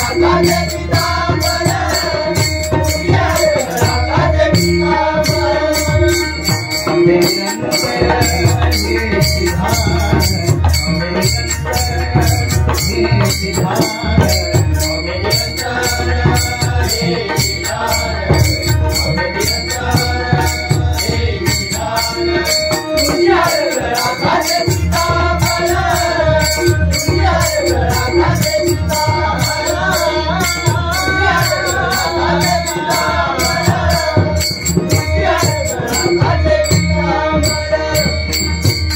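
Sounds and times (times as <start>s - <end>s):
hand drums playing: 0.0s - 38.9s
winding melody line: 0.0s - 38.9s.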